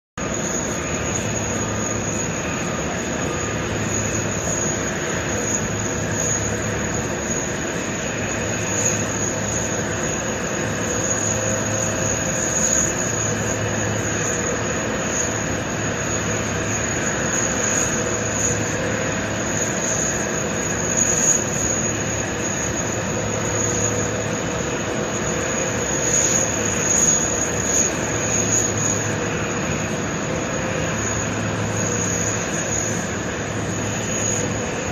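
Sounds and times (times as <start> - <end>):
jet turbine drone: 0.2 - 34.9
low pulsing hum: 0.2 - 34.9.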